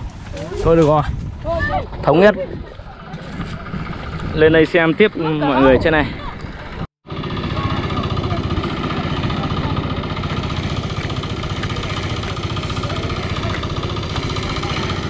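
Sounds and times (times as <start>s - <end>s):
engine idling: 2.1s - 15.0s.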